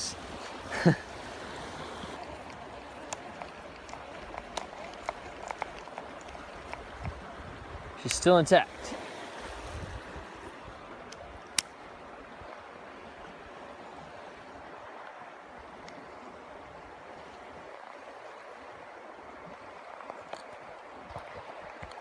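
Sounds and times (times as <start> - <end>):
creek water running: 0.0 - 22.0.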